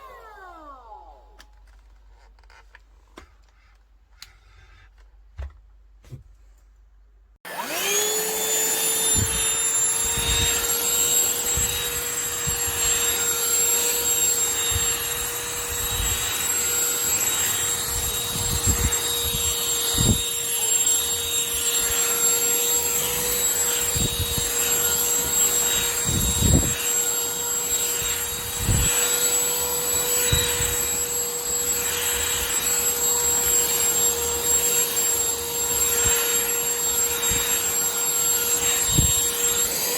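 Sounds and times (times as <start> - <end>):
handheld vacuum motor whine: 0.0 - 1.8, 7.5 - 39.9.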